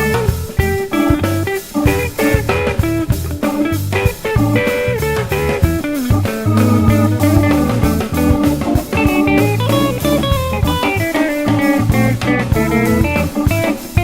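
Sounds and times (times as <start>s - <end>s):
blues electric guitar with band: 0.0s - 14.0s.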